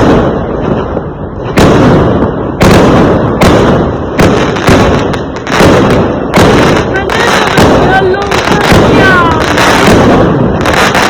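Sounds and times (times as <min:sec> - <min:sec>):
fireworks exploding with loud bangs: 0:00.0 - 0:11.0.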